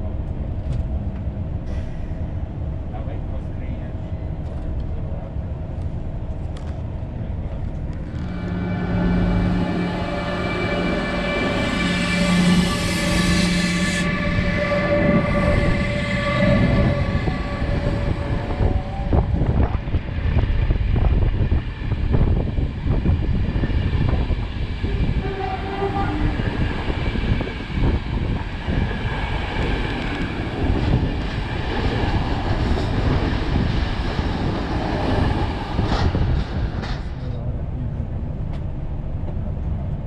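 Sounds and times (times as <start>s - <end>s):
train coaches rumbling: 0.0s - 40.0s
electric locomotive whine: 3.8s - 37.4s.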